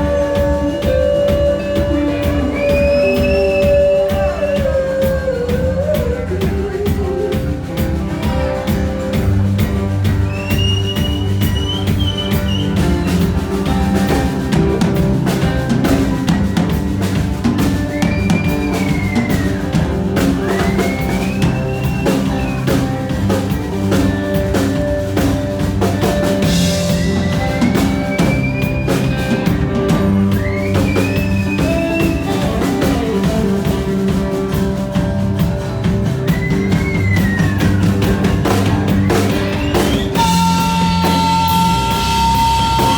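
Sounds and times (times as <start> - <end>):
rock band groove: 0.0 - 42.9
sliding lead guitar line: 0.0 - 42.9.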